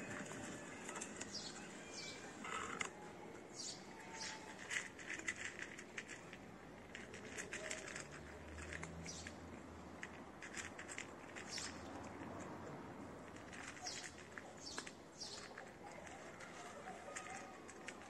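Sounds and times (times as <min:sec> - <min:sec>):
cats crunching dry kibble: 0:00.0 - 0:01.7, 0:03.8 - 0:18.0.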